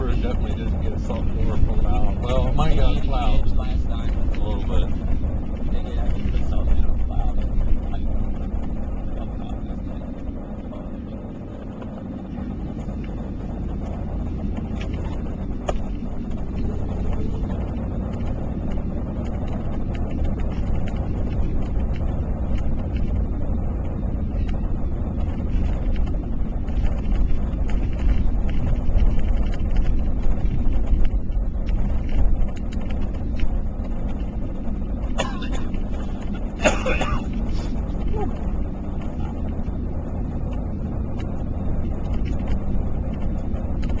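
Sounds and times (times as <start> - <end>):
car driving rumble from inside: 0.0 - 44.0.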